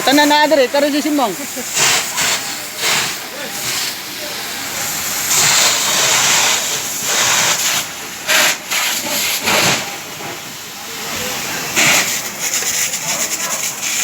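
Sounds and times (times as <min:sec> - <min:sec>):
water jetting from fire hose: 0:00.0 - 0:14.0.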